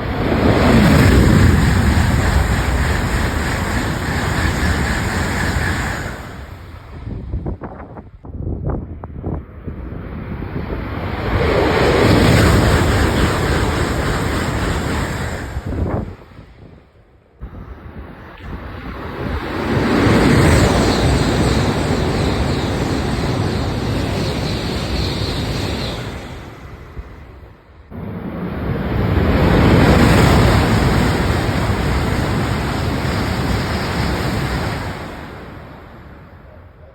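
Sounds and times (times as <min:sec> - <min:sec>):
high-speed train passing: 0:00.0 - 0:36.9.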